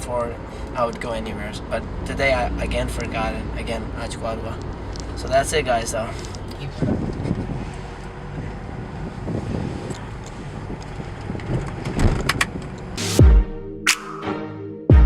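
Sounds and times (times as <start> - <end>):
car and road noise: 0.0 - 13.2.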